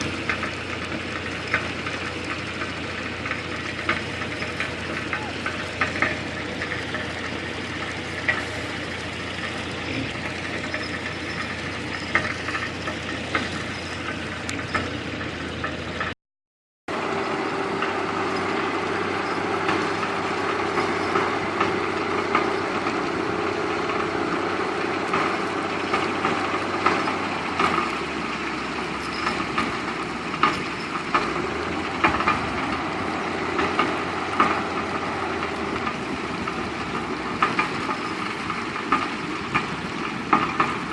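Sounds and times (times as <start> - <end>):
diesel engines droning: 0.0 - 16.2, 16.9 - 40.9.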